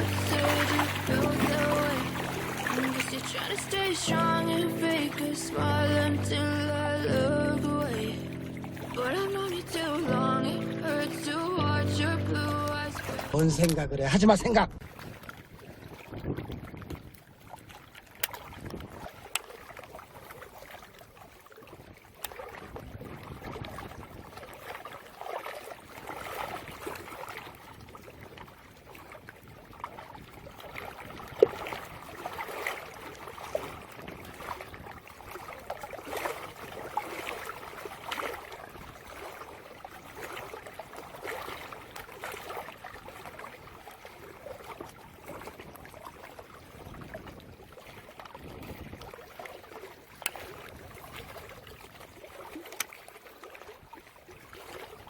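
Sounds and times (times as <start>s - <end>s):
water lapping and trickling: 0.0s - 55.0s.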